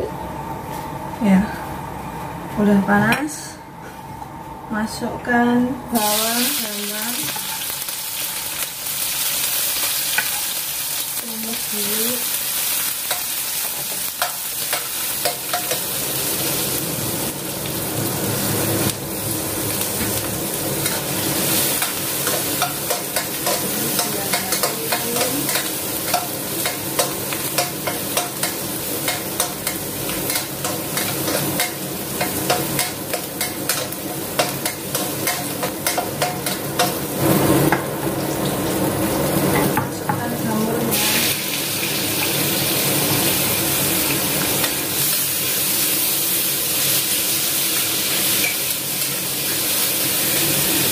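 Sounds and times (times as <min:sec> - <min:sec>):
food sizzling in hot oil: 0:06.0 - 0:50.9.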